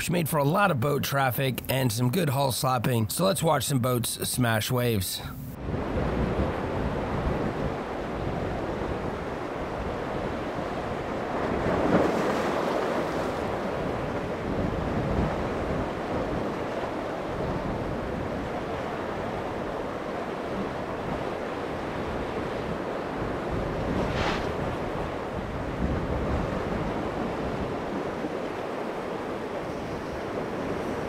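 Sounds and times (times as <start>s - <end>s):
wind buffeting microphone: 5.4s - 31.0s
surf and waves breaking: 5.6s - 31.0s.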